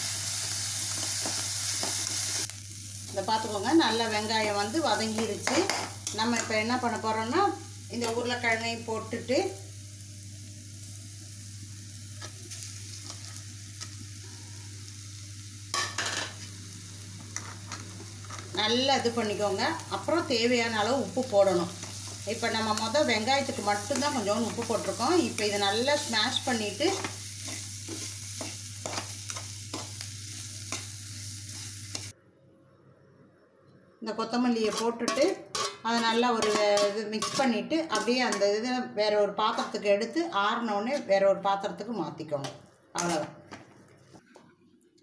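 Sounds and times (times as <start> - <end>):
onions sizzling in oil: 0.0 - 32.1, 34.4 - 38.9.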